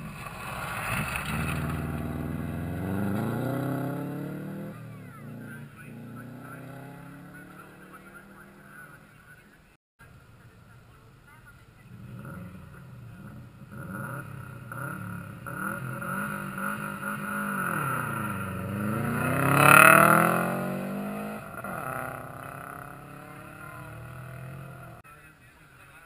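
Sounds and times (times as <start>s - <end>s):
rally car engine revving: 0.0s - 9.1s, 11.9s - 25.0s.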